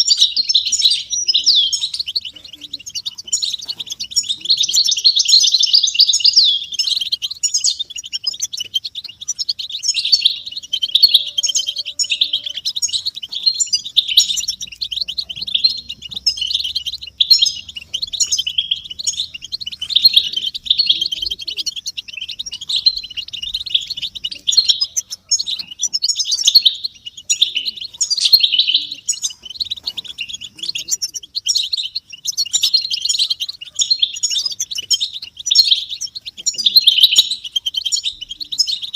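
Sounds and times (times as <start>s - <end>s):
goldfinches twittering: 0.0s - 38.9s.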